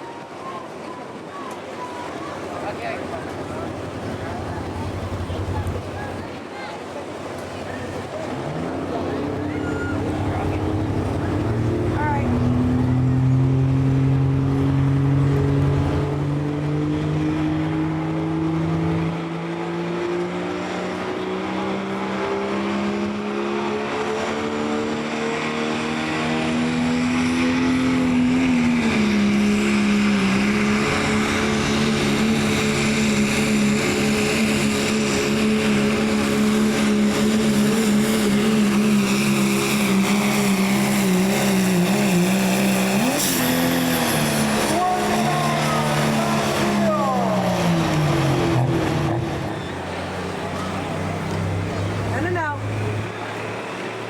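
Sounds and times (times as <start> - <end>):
diesel engine at full throttle: 2.0 - 54.0.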